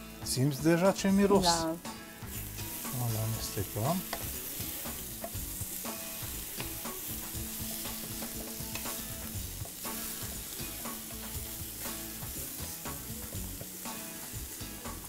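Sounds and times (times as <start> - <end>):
vegetables sizzling in frying pan: 0.0 - 15.0.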